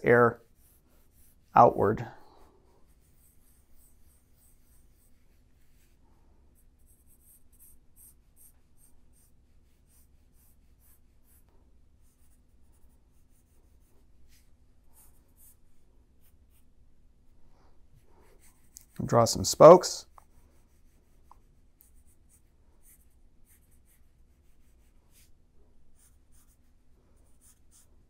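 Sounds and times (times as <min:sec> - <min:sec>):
pen scratching sketch strokes: 0:00.4 - 0:01.6, 0:02.8 - 0:06.0, 0:06.6 - 0:16.6, 0:18.0 - 0:19.1, 0:20.0 - 0:25.3, 0:26.0 - 0:27.9.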